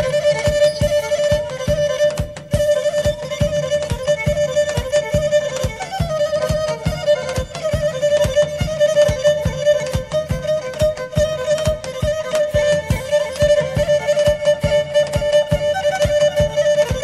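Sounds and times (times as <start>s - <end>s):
bowed lyra melody: 0.0s - 17.0s
regular low beat: 0.0s - 17.0s.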